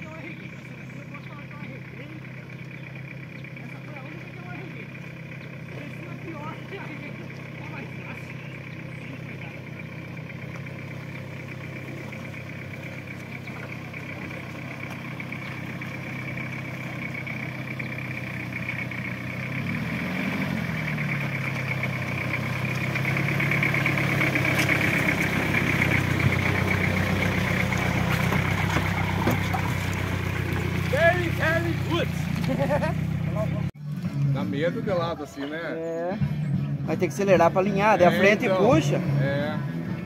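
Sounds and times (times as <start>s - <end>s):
pickup truck engine at low revs: 0.0s - 34.6s.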